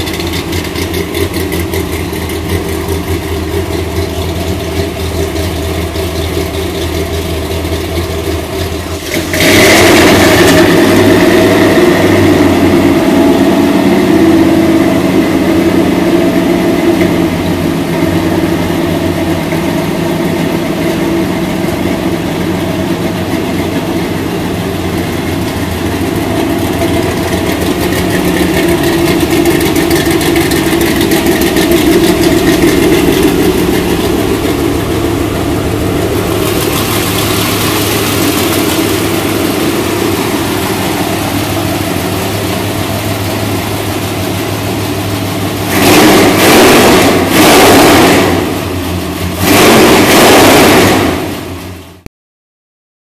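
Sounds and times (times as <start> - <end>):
truck engine idling: 0.0 - 46.5
engine revving: 8.6 - 51.8.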